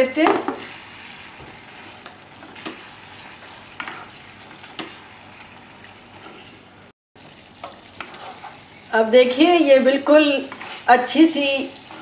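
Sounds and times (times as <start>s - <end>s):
chicken frying sizzle: 0.0s - 12.0s.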